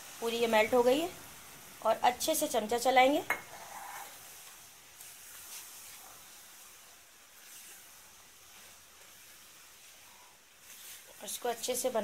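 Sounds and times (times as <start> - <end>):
sizzling in a pan: 0.0 - 12.0.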